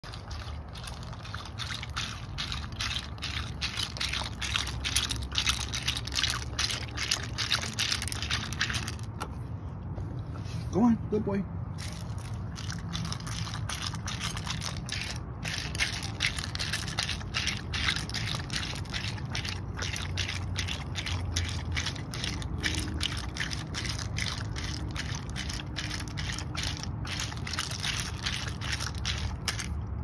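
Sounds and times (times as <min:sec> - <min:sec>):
dog licking ice cubes in bowl: 0:00.0 - 0:09.2, 0:11.8 - 0:29.8.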